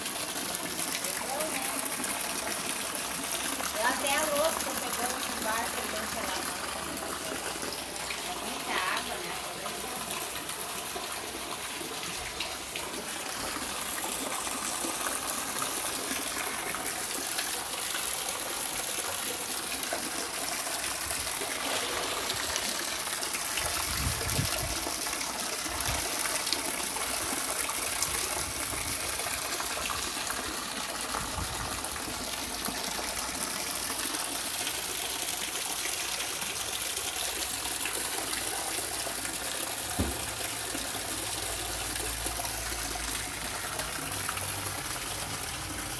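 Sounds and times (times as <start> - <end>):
rainwater gushing: 0.0 - 45.9.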